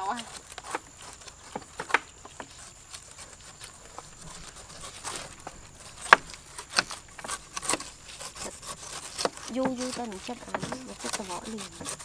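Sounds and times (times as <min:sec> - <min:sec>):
knives cutting pineapple rind: 0:00.0 - 0:12.0.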